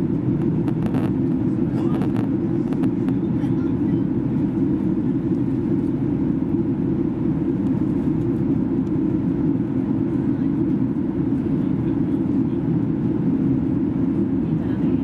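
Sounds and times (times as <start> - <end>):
airliner cabin engine drone: 0.0 - 15.0
faint steady hum tones: 0.0 - 15.0.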